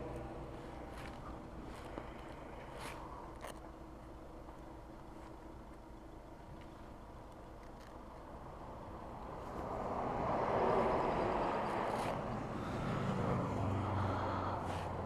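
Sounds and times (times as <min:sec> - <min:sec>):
rushing road noise: 0:00.0 - 0:15.0.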